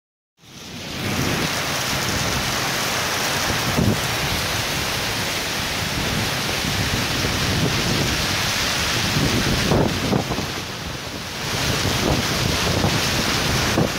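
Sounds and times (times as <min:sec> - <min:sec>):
heavy rain on pavement: 0:00.4 - 0:13.9.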